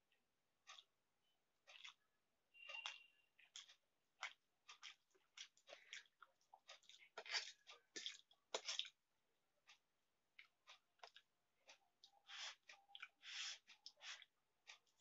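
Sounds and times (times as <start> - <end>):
wet chewing and lip-smacking: 0.6 - 0.9, 1.6 - 2.1, 2.7 - 9.0, 9.6 - 15.0.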